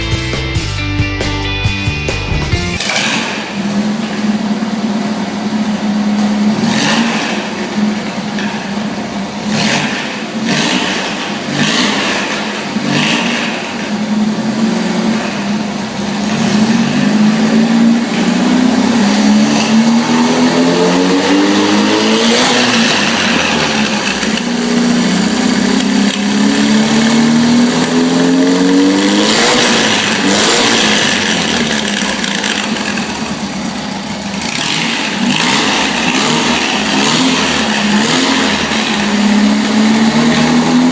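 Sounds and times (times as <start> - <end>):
car engine revving with exhaust cracks: 1.8 - 40.9.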